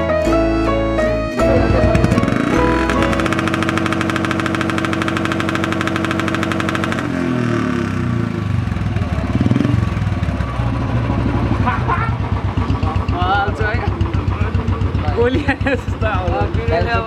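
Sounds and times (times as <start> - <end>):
motorcycle engine revving: 1.4 - 17.0.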